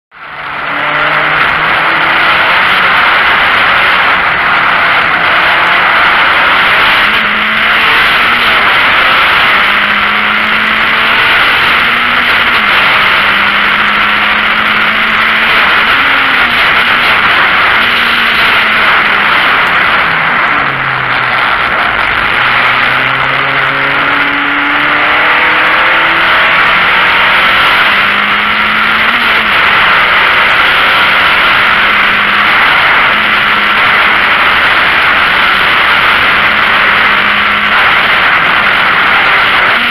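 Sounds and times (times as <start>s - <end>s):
car engine accelerating: 0.1s - 39.9s
wind and road noise: 0.1s - 39.9s.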